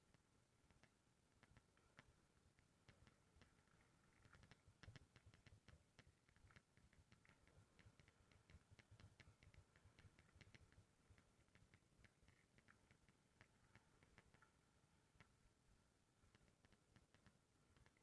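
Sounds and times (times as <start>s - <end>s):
faint irregular clicking: 0.0s - 18.0s.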